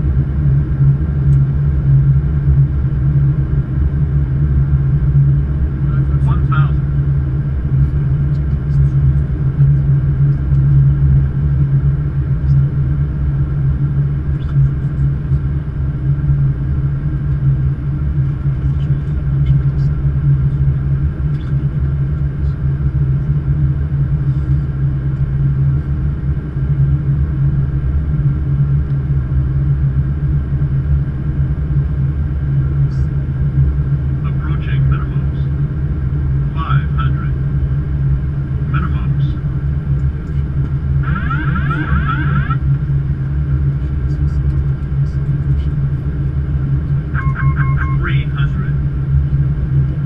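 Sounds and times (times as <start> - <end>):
aircraft cockpit rumble and hum: 0.0 - 50.0.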